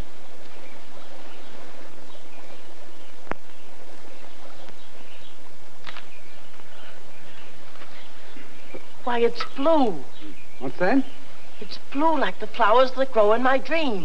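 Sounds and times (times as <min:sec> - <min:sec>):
tape hum and hiss: 0:00.0 - 0:14.0.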